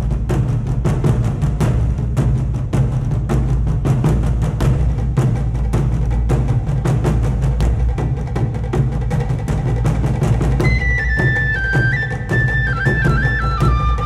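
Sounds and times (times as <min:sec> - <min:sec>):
fast drum and percussion beat: 0:00.0 - 0:14.0.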